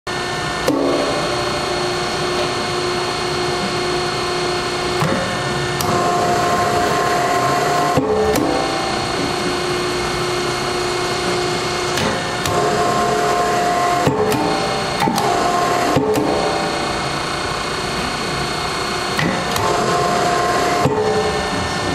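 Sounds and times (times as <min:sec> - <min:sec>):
hydraulic pump whining: 0:00.1 - 0:21.9.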